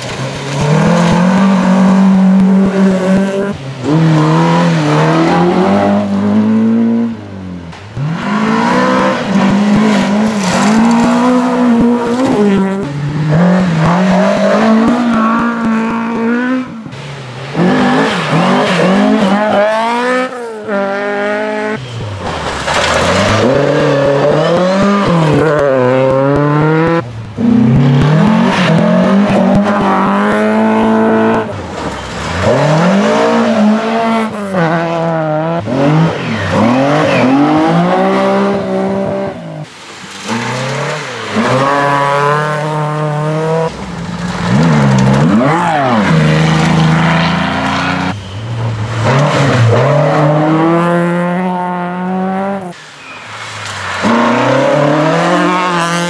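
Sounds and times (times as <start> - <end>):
tyres rushing on gravel: 0.0 - 5.8, 7.7 - 16.4, 17.0 - 50.6, 52.7 - 56.0
rally car engines revving: 0.0 - 56.0.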